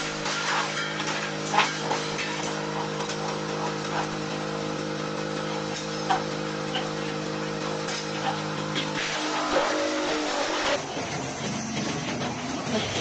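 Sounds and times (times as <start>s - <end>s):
wood chipper humming: 0.0s - 13.0s.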